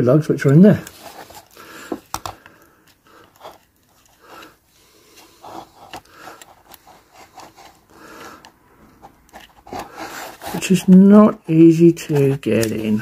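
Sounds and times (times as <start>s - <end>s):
plastic scraping and rubbing: 0.5s - 2.5s, 3.1s - 13.0s.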